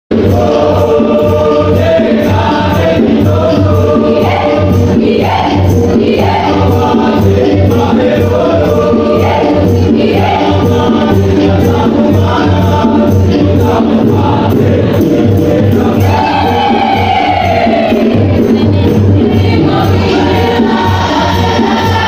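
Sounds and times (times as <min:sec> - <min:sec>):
choir singing: 0:00.1 - 0:22.0
steady beat: 0:00.1 - 0:22.0.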